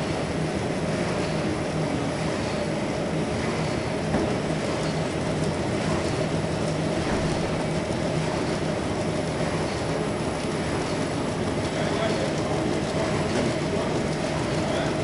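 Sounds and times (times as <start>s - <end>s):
printing machine running: 0.0s - 15.0s.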